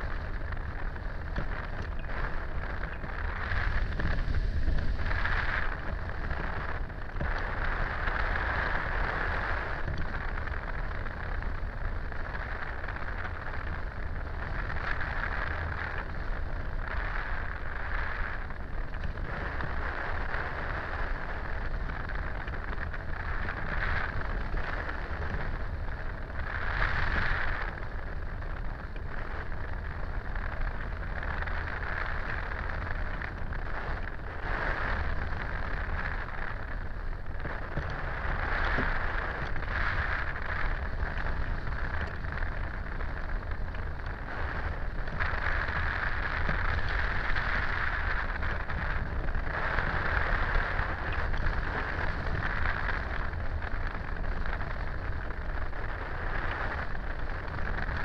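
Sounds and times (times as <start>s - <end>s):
wind rush buffeting microphone: 0.0s - 58.0s.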